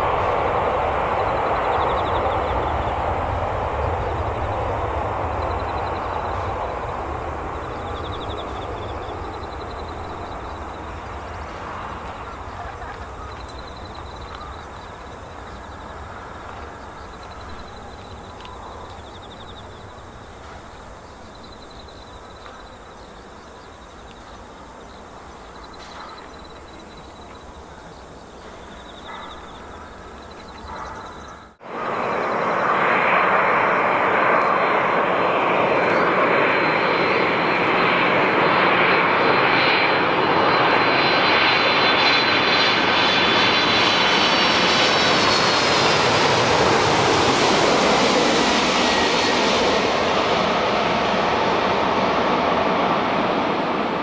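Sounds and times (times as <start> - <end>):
distant jet taking off: 0.0 - 54.0
loud jet engines roaring: 0.0 - 54.0.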